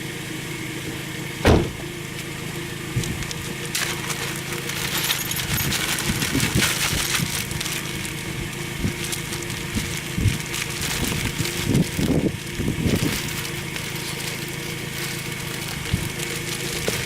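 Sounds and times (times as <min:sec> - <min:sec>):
vehicle engine idling: 0:00.0 - 0:17.0
tire chain links clinking: 0:03.0 - 0:17.0.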